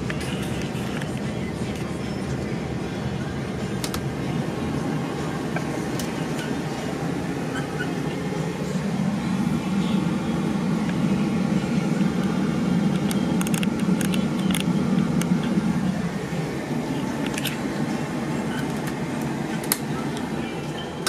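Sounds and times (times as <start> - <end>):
vehicle cab hum and air rush: 0.0 - 21.0.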